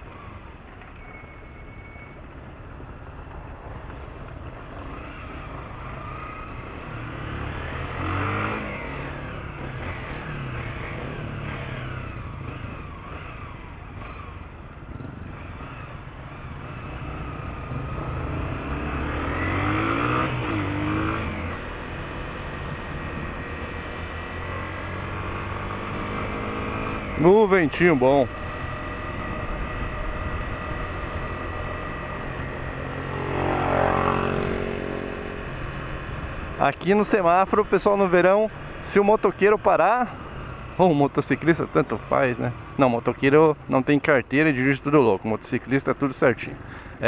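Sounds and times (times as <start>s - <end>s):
road and wind noise: 0.0s - 47.0s
motorcycle engine accelerating: 3.9s - 43.8s.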